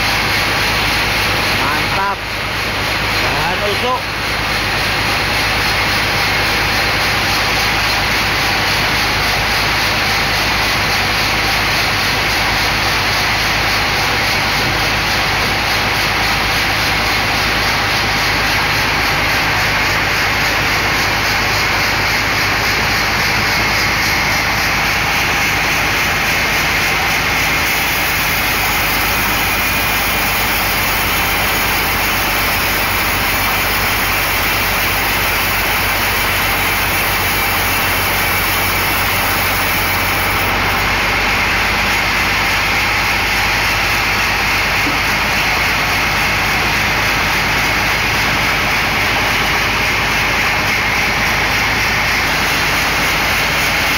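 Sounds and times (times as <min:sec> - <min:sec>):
band sawmill running: 0:00.0 - 0:53.9
low machine hum: 0:00.0 - 0:53.9.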